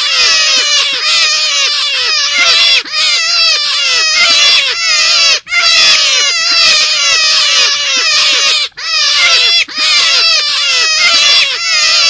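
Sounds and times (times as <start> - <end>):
rabbit high cries: 0.0 - 12.0.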